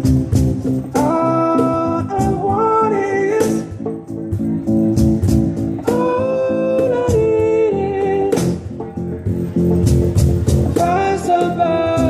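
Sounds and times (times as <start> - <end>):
cajon percussion: 0.0 - 12.0.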